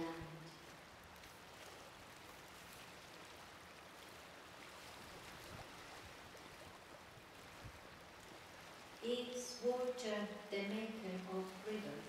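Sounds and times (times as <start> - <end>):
choppy river water: 0.0 - 12.0.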